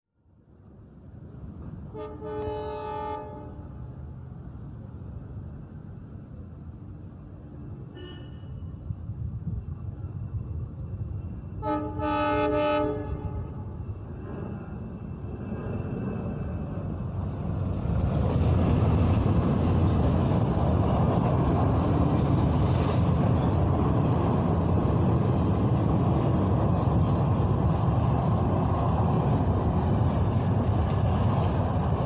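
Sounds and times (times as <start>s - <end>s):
train rumbling past on rails: 0.2s - 32.0s.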